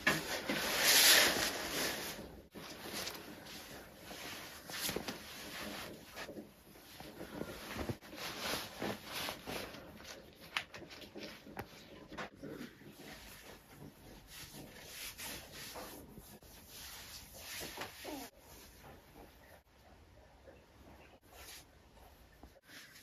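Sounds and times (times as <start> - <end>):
clothing rustling: 0.0 - 19.3.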